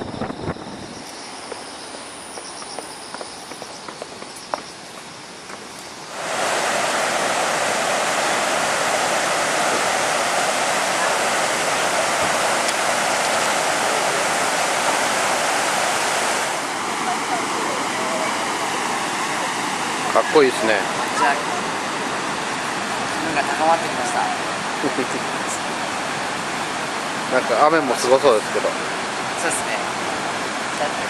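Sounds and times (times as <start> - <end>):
river rushing over rapids: 5.3 - 31.0.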